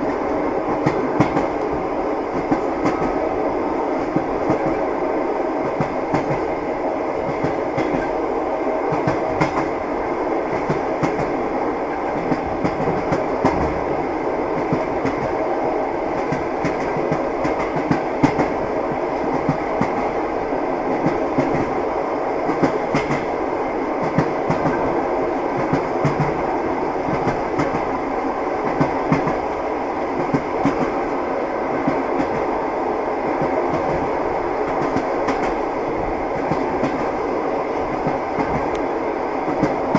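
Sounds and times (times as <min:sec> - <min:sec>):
train wheels clattering on rails: 0:00.0 - 0:05.0, 0:05.6 - 0:21.8, 0:22.4 - 0:39.9.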